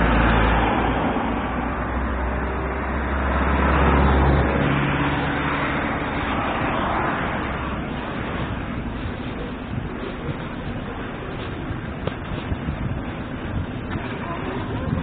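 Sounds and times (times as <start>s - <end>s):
dense rumbling noise: 0.0s - 15.0s
strong low hum: 0.0s - 15.0s.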